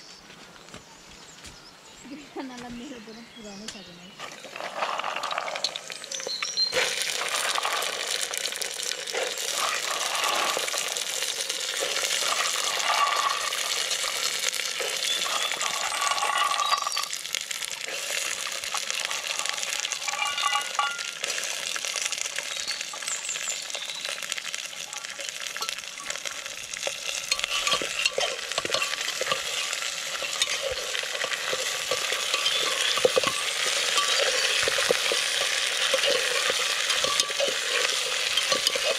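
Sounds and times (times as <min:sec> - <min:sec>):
food sizzling in a pan: 0:04.2 - 0:38.9.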